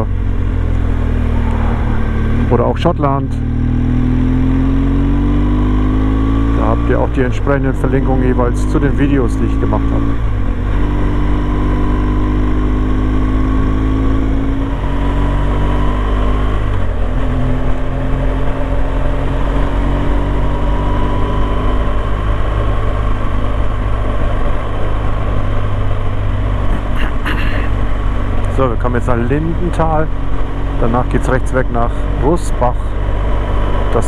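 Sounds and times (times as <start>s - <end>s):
motorcycle engine running: 0.0s - 34.0s
wind and road rumble: 0.0s - 34.0s.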